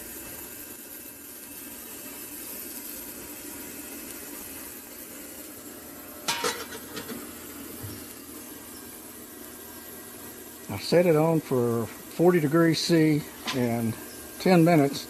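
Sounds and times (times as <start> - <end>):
ultrasonic cleaner hissing: 0.0 - 15.0.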